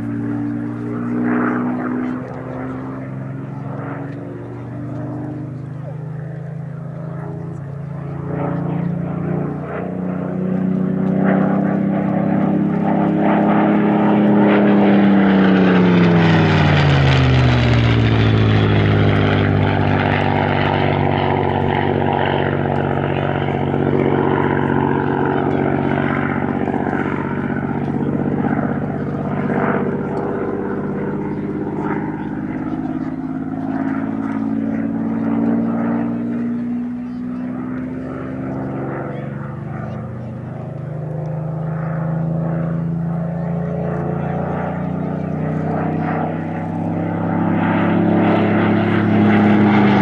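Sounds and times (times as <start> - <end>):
aircraft engine flypast: 0.0 - 50.0.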